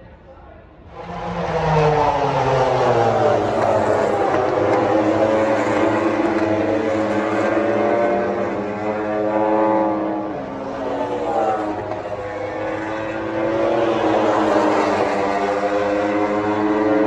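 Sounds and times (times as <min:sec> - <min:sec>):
race bike engines: 0:00.8 - 0:17.0.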